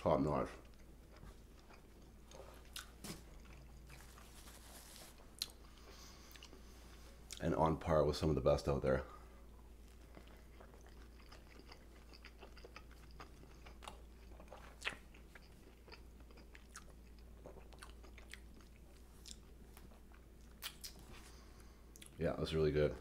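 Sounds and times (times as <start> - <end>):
chewing sandwich: 0.6 - 7.4, 9.7 - 22.2.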